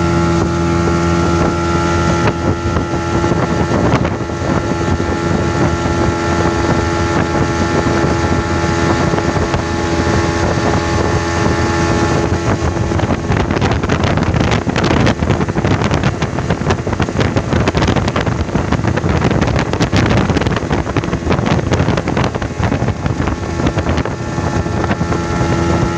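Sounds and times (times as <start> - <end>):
speedboat engine running: 0.0 - 25.9
wind buffeting microphone: 0.0 - 25.9.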